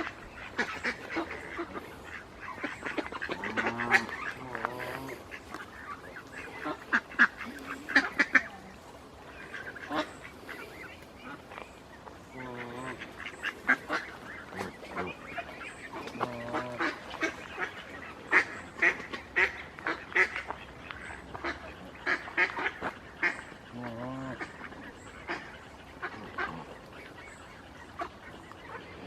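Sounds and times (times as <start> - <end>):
geese honking: 0.0 - 29.0.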